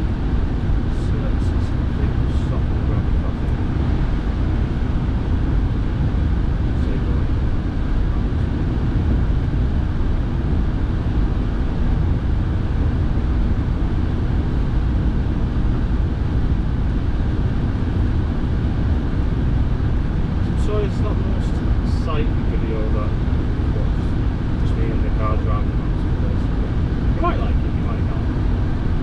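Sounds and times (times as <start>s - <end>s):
car engine and road rumble: 0.0s - 29.0s
car heater blowing: 0.0s - 29.0s.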